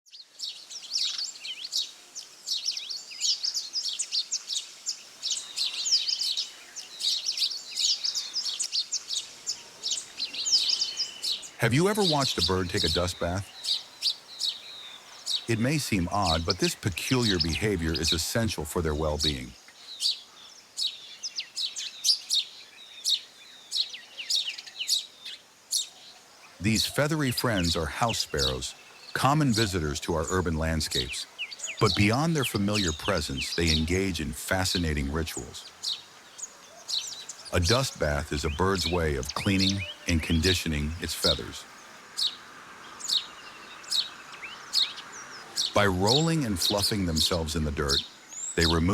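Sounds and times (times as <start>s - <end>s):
sparrows chirping: 0.1s - 48.9s.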